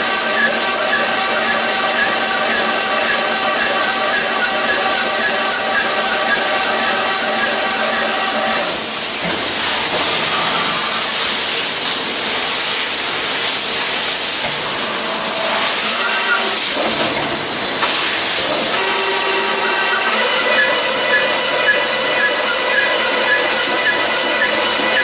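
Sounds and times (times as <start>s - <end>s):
loud steady hiss: 0.0s - 25.0s.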